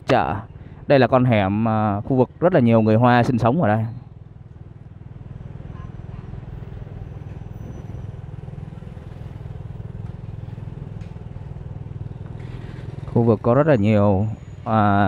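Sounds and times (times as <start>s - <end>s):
motorbike engine rumbling: 0.0s - 15.0s.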